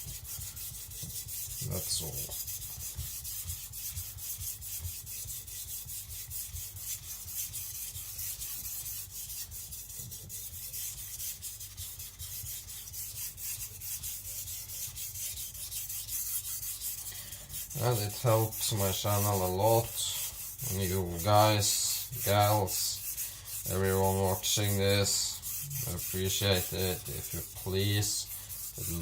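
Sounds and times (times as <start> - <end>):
knife scraping on whetstone: 0.0 - 29.0.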